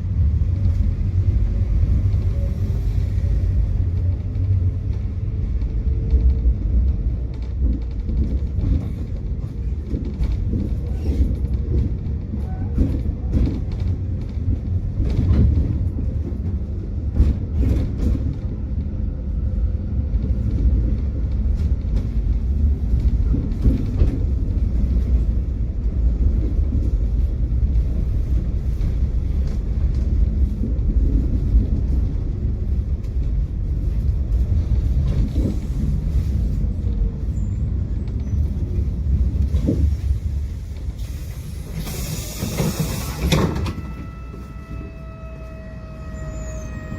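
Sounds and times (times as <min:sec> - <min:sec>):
tram wheels rumbling: 0:00.0 - 0:46.9.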